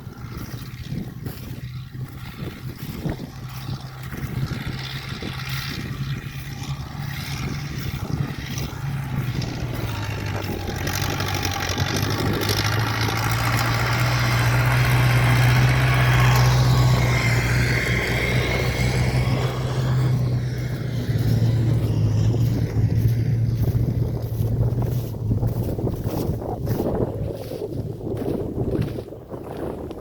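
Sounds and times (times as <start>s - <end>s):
lower hum: 0.0s - 27.2s
motor engine running: 0.0s - 30.0s.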